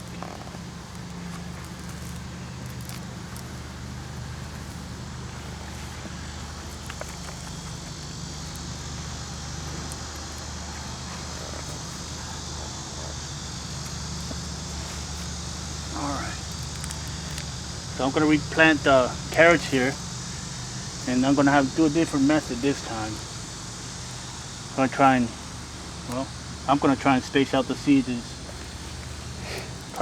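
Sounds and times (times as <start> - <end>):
high-pitched hiss: 0.0 - 30.0
low mechanical hum: 0.0 - 30.0.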